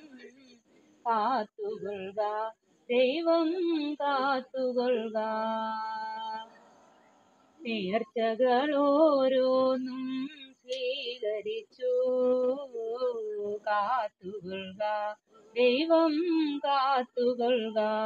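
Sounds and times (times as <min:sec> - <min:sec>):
person singing devotional song: 0:00.0 - 0:18.0.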